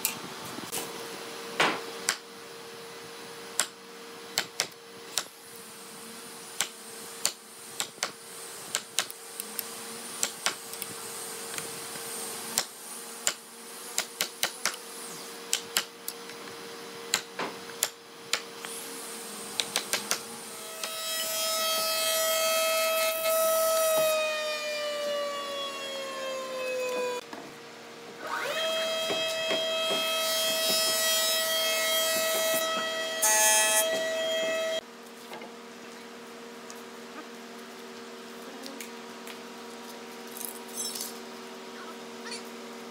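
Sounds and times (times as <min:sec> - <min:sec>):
workshop hum: 0:00.0 - 0:42.9.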